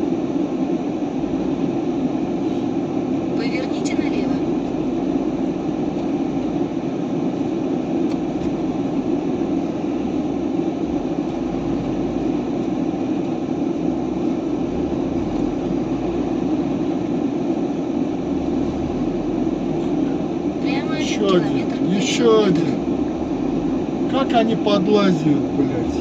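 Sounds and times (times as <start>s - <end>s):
road noise: 0.0s - 26.0s
truck diesel engine drone: 0.0s - 26.0s.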